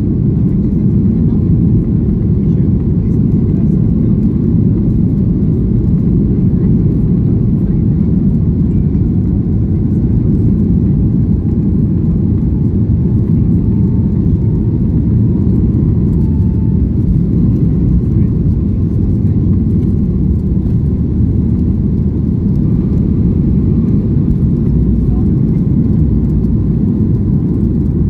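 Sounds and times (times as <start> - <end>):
airplane cabin rumble: 0.0 - 28.0
jet engines running: 0.0 - 28.0.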